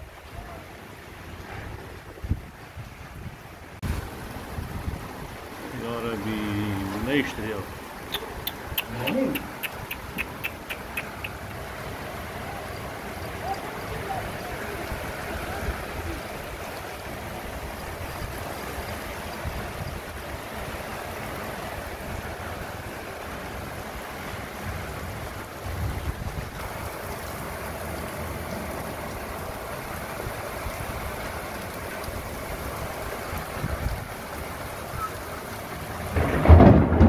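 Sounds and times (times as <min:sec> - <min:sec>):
wind buffeting microphone: 0:00.0 - 0:11.8, 0:12.9 - 0:27.0, 0:32.0 - 0:37.0
heavy rain pouring: 0:00.0 - 0:37.0.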